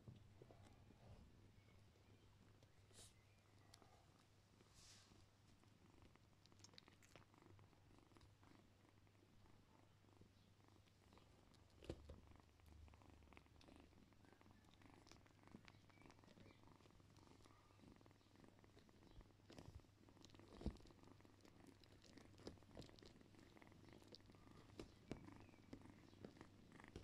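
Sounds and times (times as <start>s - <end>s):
cat purring softly: 0.0s - 27.0s
faint rustling: 0.0s - 27.0s.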